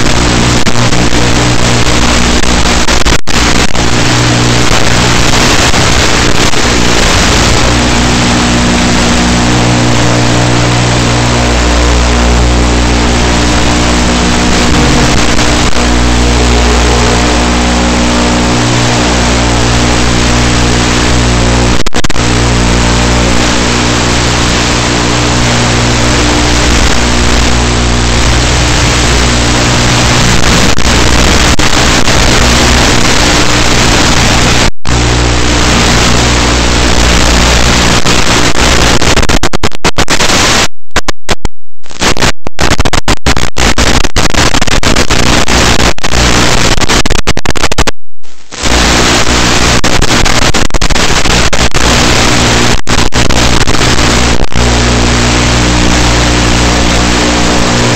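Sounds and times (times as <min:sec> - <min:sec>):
low hum: 0:00.0 - 0:39.2, 0:43.4 - 0:57.9
loud static hiss: 0:00.0 - 0:57.9.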